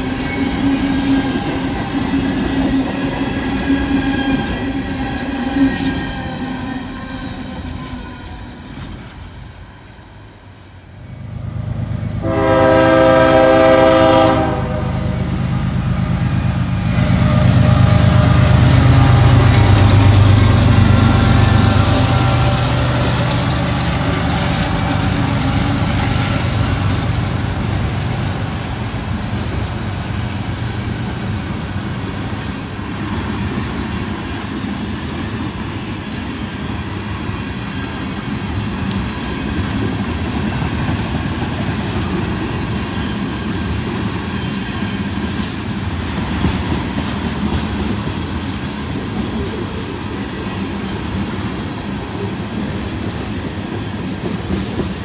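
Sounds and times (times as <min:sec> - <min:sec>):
train wheels clickety-clack: 0:00.0 - 0:09.2, 0:15.3 - 0:55.0
sharp train clanks: 0:00.0 - 0:09.8, 0:11.1 - 0:55.0
diesel locomotive engines rumbling: 0:00.0 - 0:55.0.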